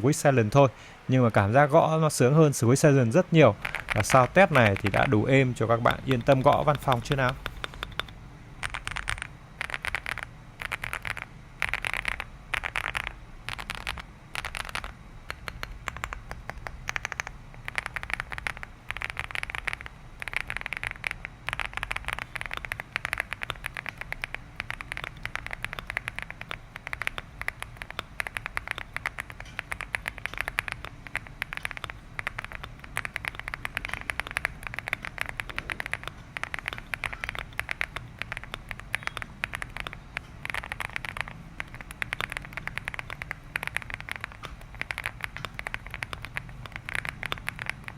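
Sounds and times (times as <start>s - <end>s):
fast typing on keyboard: 3.5s - 47.9s.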